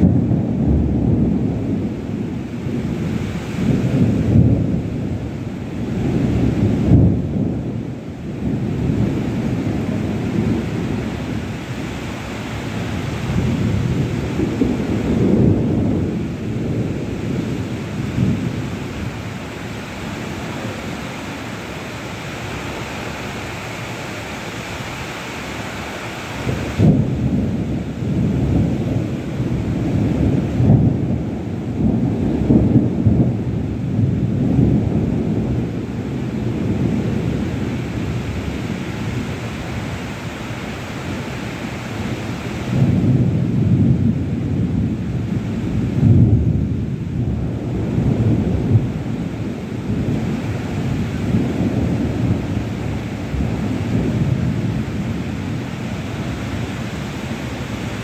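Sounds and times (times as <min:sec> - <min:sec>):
heavy rain pouring: 0:00.0 - 0:58.0
low rumble in gusts: 0:00.0 - 0:58.0.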